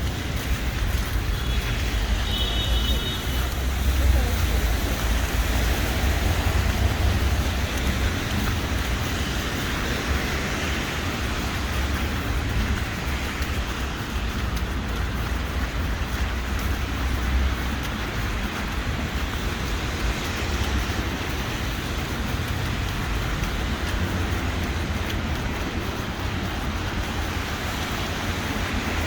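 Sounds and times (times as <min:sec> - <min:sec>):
traffic hiss: 0:00.0 - 0:29.0.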